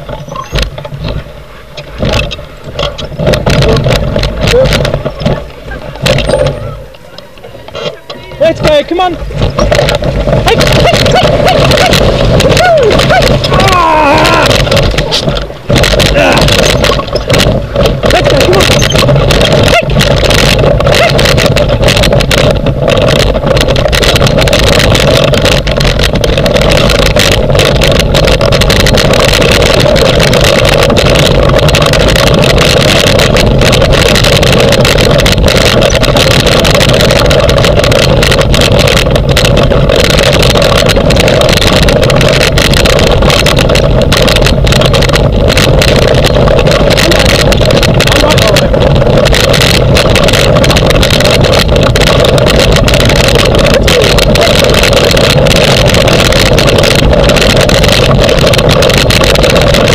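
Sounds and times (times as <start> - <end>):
wheels rumbling over dirt track: 0.0 - 59.9
wind buffeting microphone: 0.0 - 59.9.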